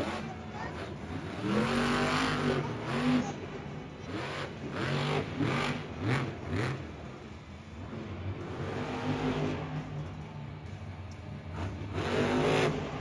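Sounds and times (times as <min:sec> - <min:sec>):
truck engine revving: 0:00.0 - 0:07.2, 0:07.8 - 0:10.8, 0:11.4 - 0:13.0.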